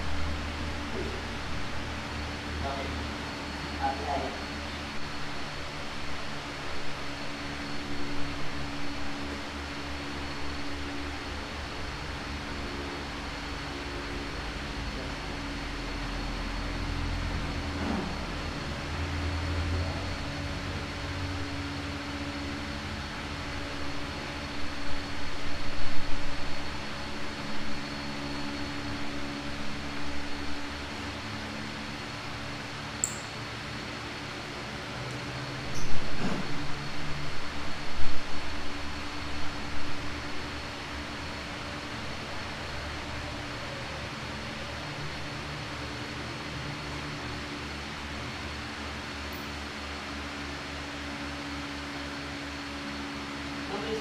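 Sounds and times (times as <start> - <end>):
low pulsing throb: 0.0 - 54.0
machinery hum with high whine: 0.0 - 54.0.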